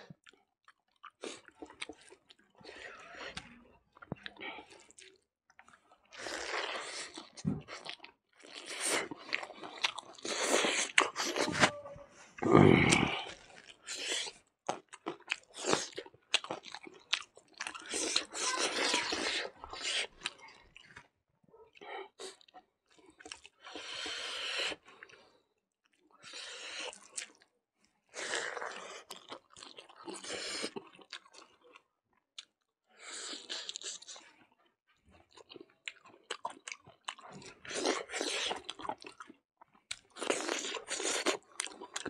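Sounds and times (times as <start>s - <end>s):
chewing and crunching food: 0.0s - 42.0s.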